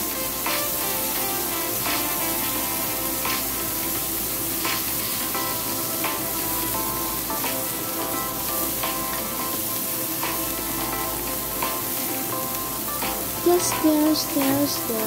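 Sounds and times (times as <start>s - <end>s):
background music: 0.0s - 15.0s
vegetables sizzling in oil: 0.0s - 15.0s.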